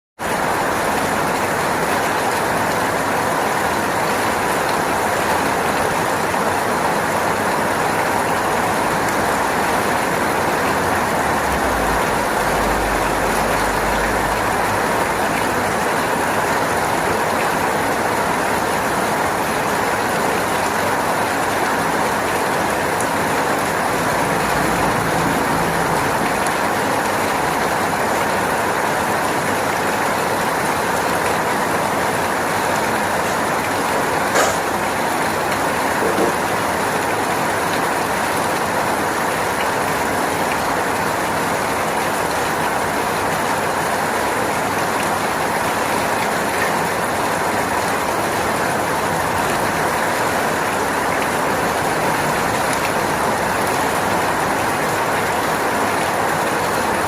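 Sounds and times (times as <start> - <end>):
steady rain: 0.2 - 57.0.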